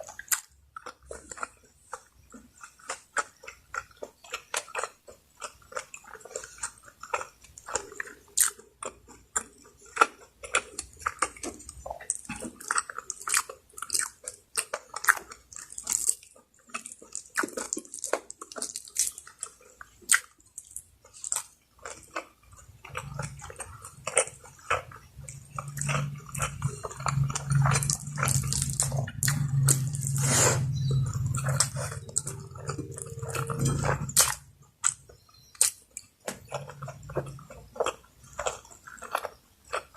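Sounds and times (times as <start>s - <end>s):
wet chewing and lip smacking: 0.0s - 39.9s.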